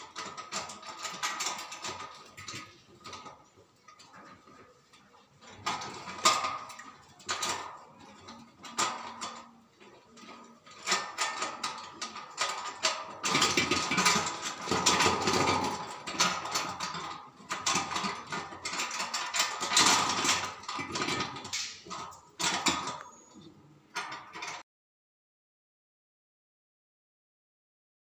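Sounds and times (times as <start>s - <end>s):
metal bracket rattling and clicking: 0.0s - 23.2s, 23.9s - 24.6s.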